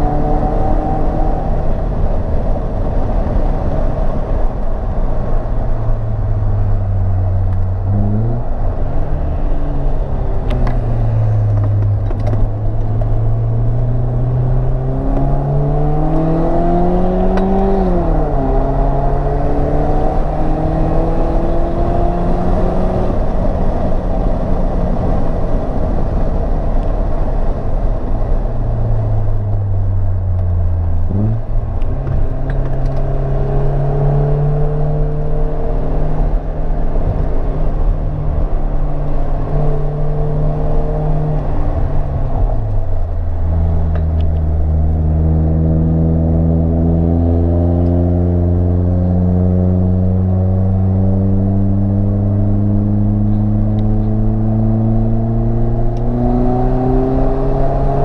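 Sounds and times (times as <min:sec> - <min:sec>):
car engine accelerating: 0:00.0 - 0:58.0
tyre and road noise: 0:00.0 - 0:58.0.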